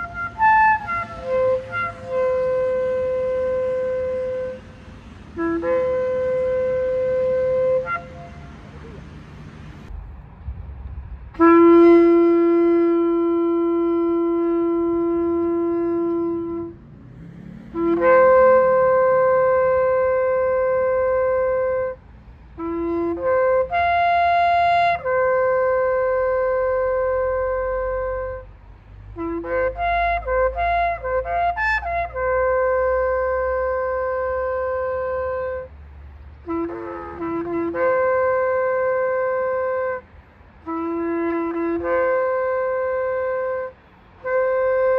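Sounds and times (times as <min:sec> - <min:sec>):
shofar blasts: 0:00.0 - 0:09.2, 0:11.3 - 0:16.8, 0:17.7 - 0:22.0, 0:22.6 - 0:28.5, 0:29.2 - 0:35.7, 0:36.4 - 0:44.9.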